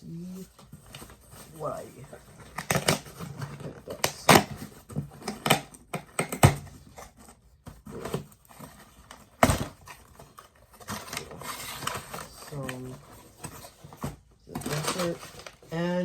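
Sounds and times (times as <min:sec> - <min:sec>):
packaging rustling and tearing: 0:00.0 - 0:16.0.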